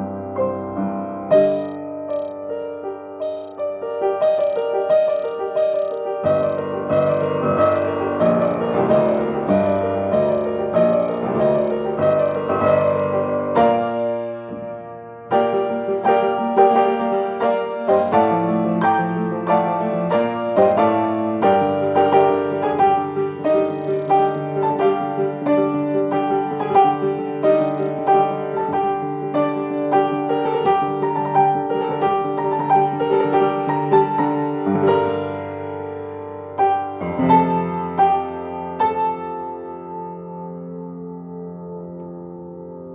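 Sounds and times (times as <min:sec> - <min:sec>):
solo grand piano: 0:00.0 - 0:42.9.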